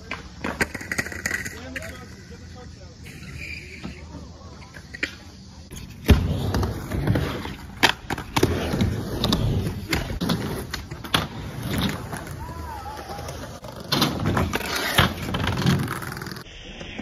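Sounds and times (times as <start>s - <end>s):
skateboard wheels rolling: 0.0s - 17.0s.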